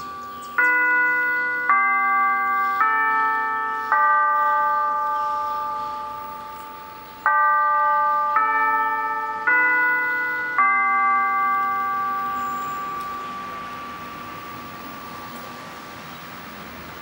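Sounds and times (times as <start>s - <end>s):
church bells chiming: 0.0s - 17.0s.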